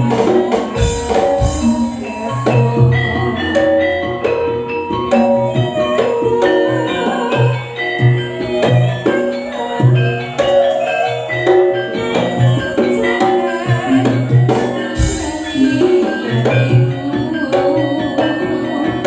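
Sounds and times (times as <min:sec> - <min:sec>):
drum strokes: 0:00.0 - 0:10.8, 0:11.4 - 0:18.9
gamelan metal keys: 0:00.0 - 0:19.0.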